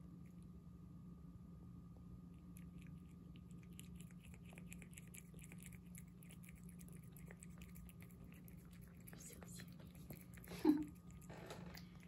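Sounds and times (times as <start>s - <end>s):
low steady hum: 0.0s - 12.0s
cat licking and chewing food: 1.9s - 12.0s.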